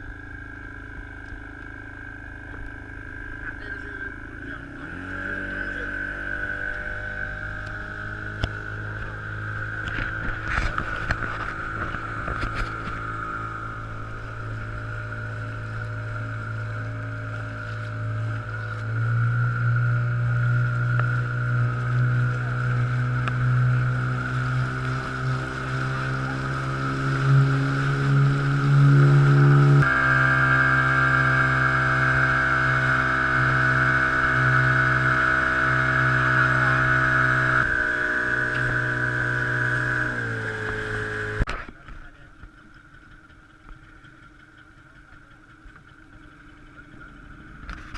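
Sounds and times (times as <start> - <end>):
boat motor running: 0.0 - 47.9.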